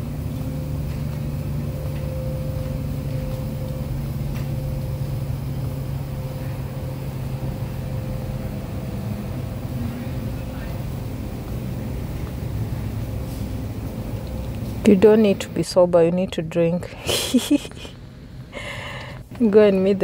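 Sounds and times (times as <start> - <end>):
refrigerator cooler hum and whine: 0.0 - 20.0.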